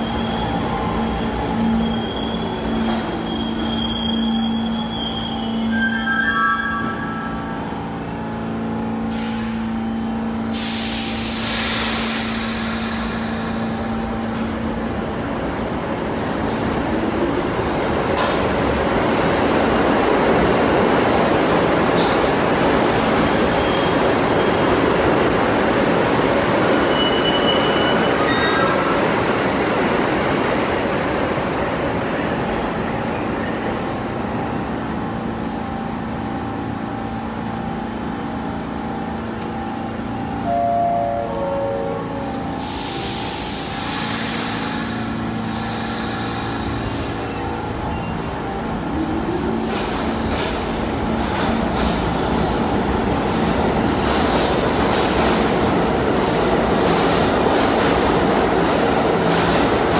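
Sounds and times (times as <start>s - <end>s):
subway train running past: 0.0s - 59.9s.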